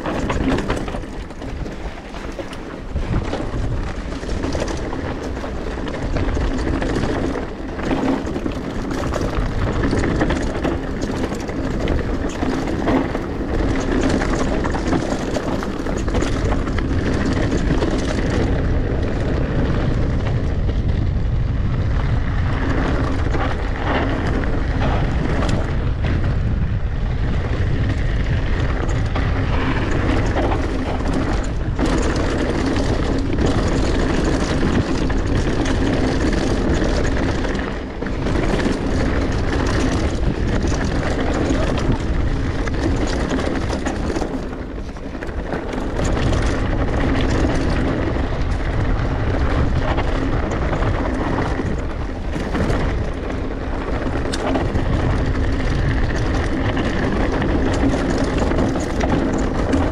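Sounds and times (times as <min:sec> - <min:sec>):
bike knocking over bumps: 0:00.0 - 0:59.9
mountain bike rumbling and rattling: 0:00.0 - 0:59.9
wind rushing over microphone: 0:00.0 - 0:59.9.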